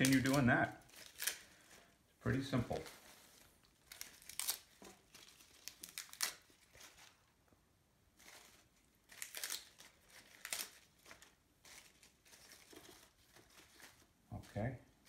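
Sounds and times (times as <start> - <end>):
leaves rustling and crinkling: 0.0 - 7.4, 8.1 - 15.0.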